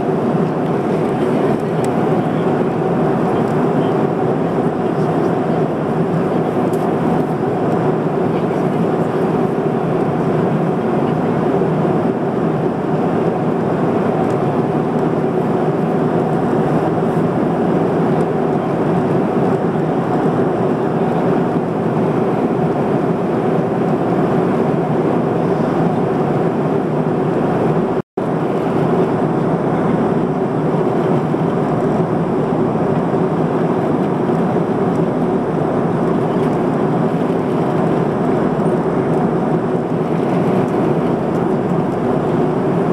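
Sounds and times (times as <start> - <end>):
airflow and engine rush: 0.0 - 42.9.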